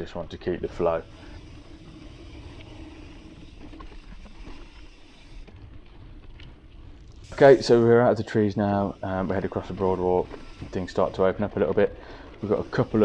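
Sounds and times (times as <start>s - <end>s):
bike tyre rumble on dirt: 0.0s - 13.0s
wind: 0.0s - 13.0s.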